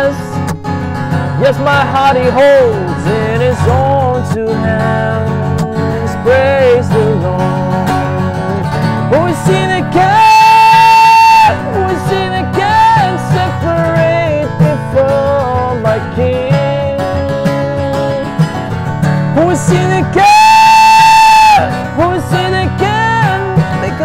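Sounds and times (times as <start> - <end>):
acoustic guitar: 0.0 - 24.0
man singing: 0.0 - 24.0.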